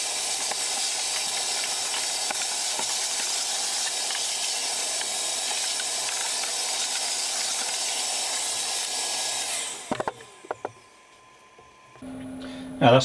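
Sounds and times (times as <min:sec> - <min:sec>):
workshop vacuum running: 0:00.0 - 0:13.0.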